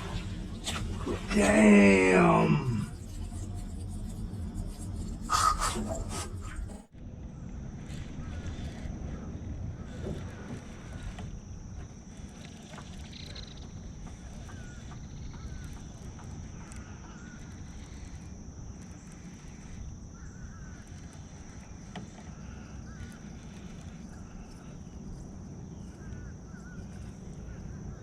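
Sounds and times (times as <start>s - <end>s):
warbling bird chirps: 0.0s - 11.2s, 12.2s - 28.0s
high insect drone: 0.0s - 28.0s
wind: 0.0s - 28.0s.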